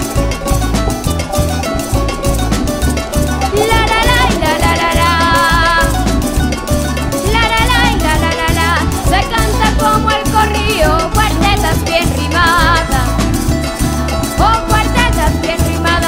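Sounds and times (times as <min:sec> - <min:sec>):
salsa music: 0:00.0 - 0:16.0.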